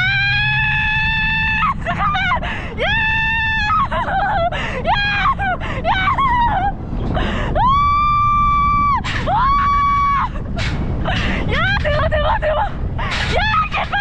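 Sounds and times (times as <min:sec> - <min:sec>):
rider screaming: 0:00.0 - 0:06.8, 0:07.6 - 0:14.0
wind buffeting microphone: 0:00.0 - 0:14.0.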